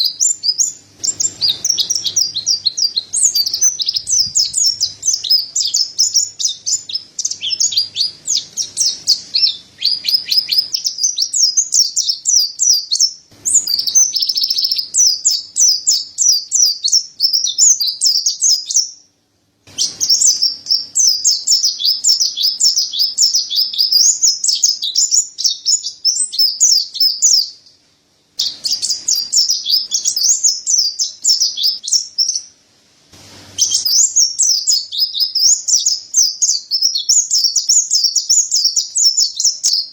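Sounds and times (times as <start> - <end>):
bird twittering song: 0.0 - 19.1, 19.7 - 27.7, 28.4 - 32.5, 33.6 - 39.9.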